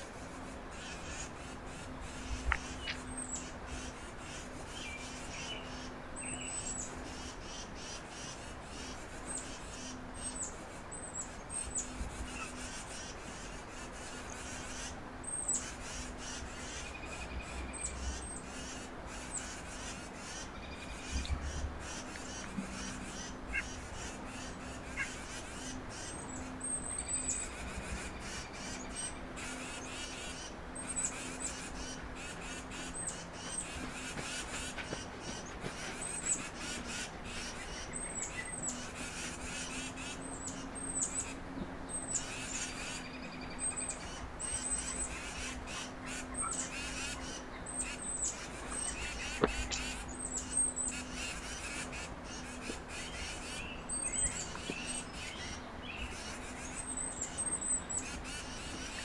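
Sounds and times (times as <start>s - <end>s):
birds chirping: 0.0s - 59.0s
lower bird calls: 0.0s - 59.0s
steady low hum: 0.0s - 59.0s.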